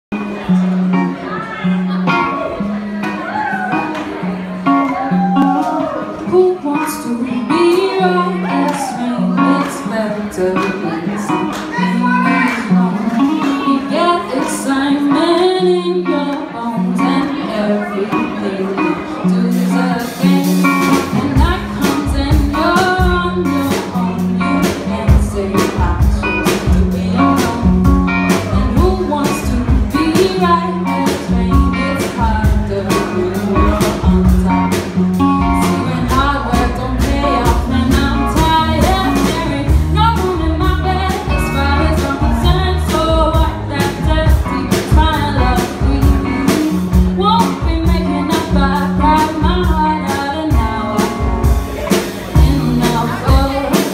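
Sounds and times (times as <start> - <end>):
live band playing: 0.1 - 53.9
woman singing: 6.2 - 51.5, 52.3 - 53.9.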